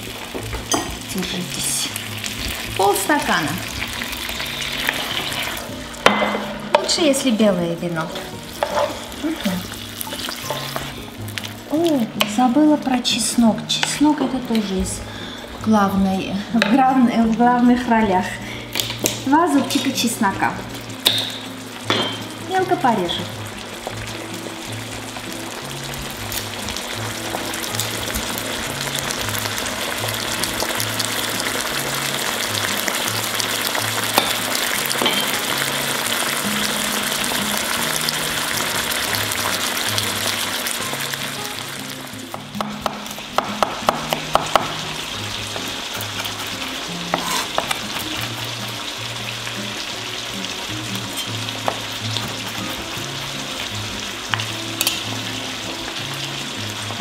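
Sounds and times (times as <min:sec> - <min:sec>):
sauce sizzling and bubbling: 0:00.0 - 0:57.0.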